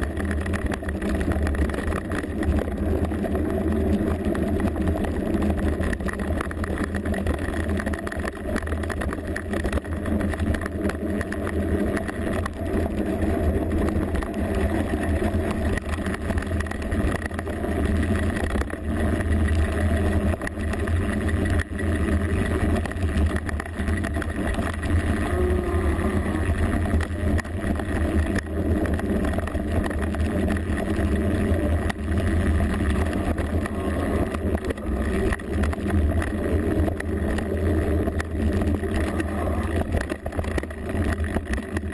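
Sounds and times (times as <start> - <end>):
bike rattling and jolts: 0.0 - 41.9
bike tyres rumbling on trail: 0.0 - 41.9.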